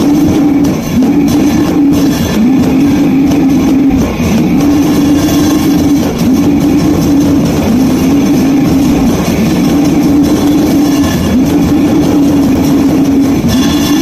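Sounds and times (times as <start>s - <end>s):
distorted guitar riff: 0.0s - 14.0s
drums: 0.0s - 14.0s.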